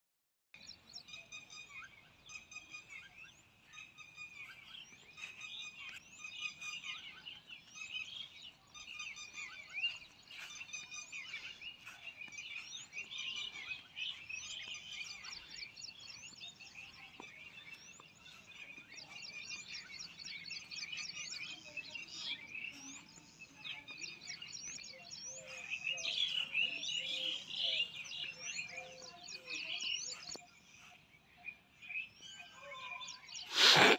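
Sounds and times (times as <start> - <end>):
small birds chirping: 0.6 - 33.9.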